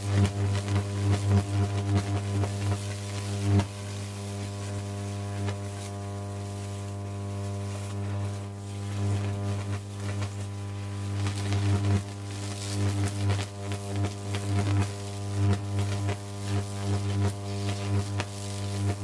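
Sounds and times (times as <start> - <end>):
electric arc buzzing: 0.0 - 19.0
electric arc crackles: 0.0 - 19.0.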